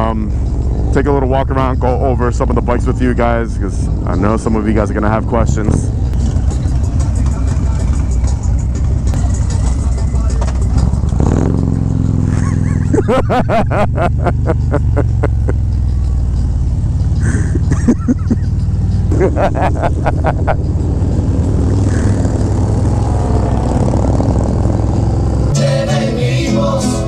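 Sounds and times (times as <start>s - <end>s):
motorcycle engine rumbling: 0.0s - 27.0s
rapid sharp engine pulsing: 0.0s - 27.0s.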